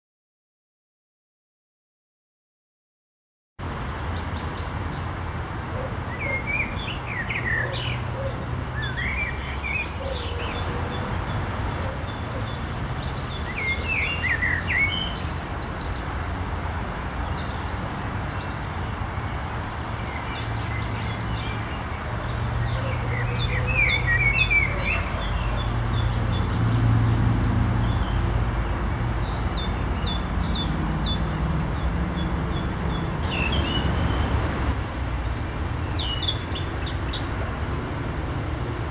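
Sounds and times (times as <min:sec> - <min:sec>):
songbirds singing and chirping: 0:03.6 - 0:38.9.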